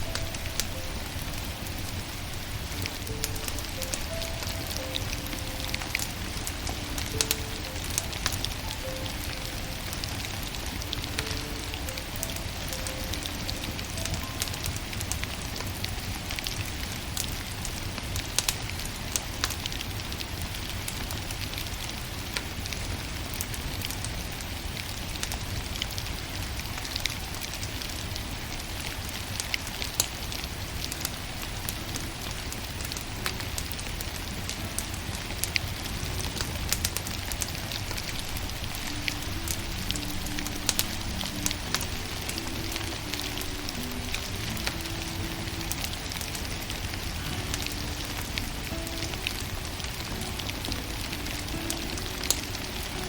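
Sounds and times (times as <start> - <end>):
soft music notes: 0.0 - 25.3, 26.0 - 53.0
wood fire crackling and popping: 0.0 - 53.0.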